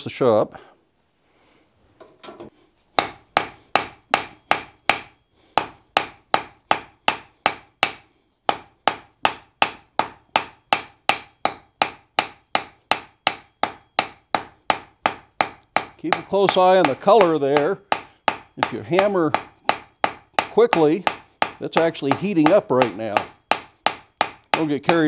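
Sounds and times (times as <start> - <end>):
hammer striking hot iron on anvil: 3.0 - 25.0.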